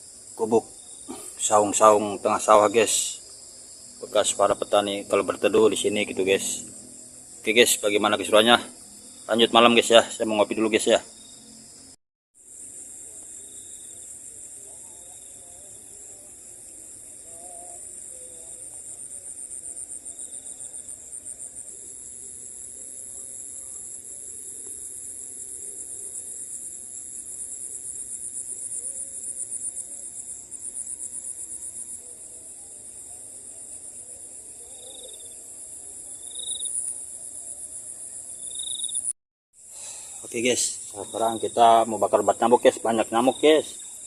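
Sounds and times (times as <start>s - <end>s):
night insects trilling: 0.0s - 44.0s.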